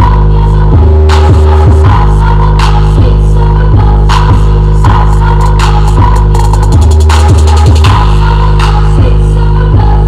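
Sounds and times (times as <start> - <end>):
bass-heavy electronic music: 0.0 - 10.0.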